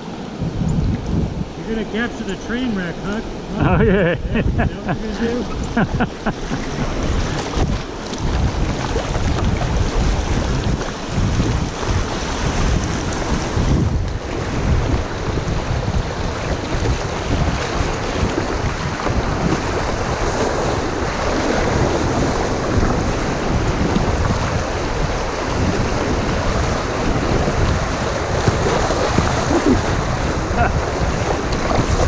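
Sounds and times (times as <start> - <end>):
river rapids rushing and splashing: 0.0 - 32.0
wind buffeting microphone: 0.0 - 32.0.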